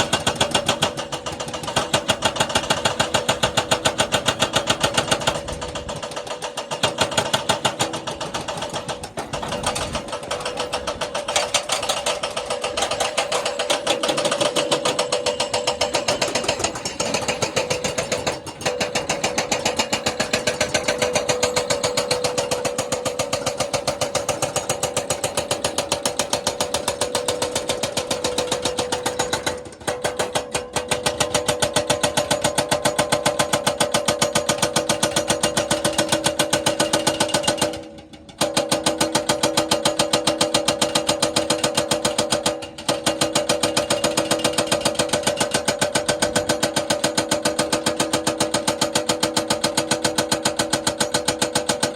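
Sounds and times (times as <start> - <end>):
jackhammer hammering: 0.0 - 51.9.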